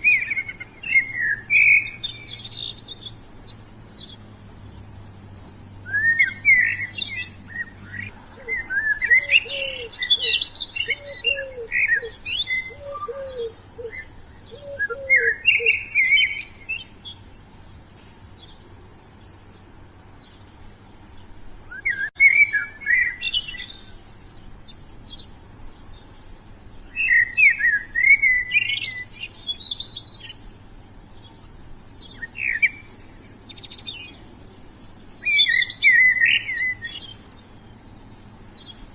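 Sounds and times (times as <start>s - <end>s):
lower bird call: 0.0s - 38.9s
songbirds chirping: 0.0s - 38.9s.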